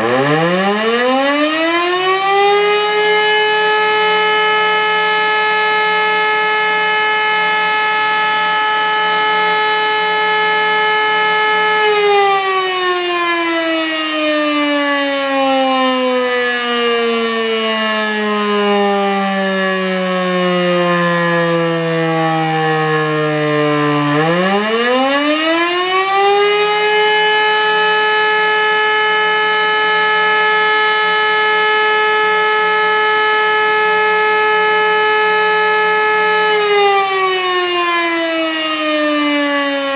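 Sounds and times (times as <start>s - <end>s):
motor siren howling: 0.0s - 39.9s.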